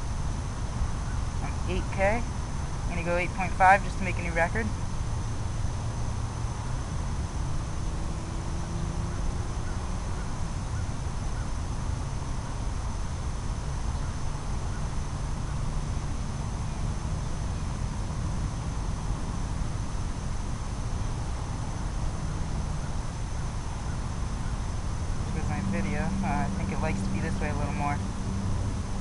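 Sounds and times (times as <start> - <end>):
faint high whine: 0.0 - 29.0
low rumble and hiss: 0.0 - 29.0.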